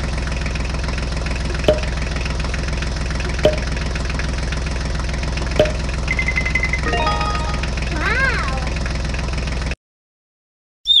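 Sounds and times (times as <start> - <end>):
tractor engine idling: 0.0 - 9.8.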